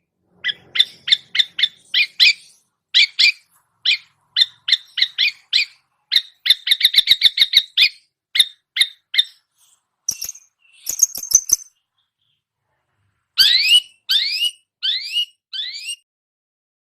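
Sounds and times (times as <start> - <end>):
bird sharp chirps: 0.4 - 12.5, 13.4 - 16.0.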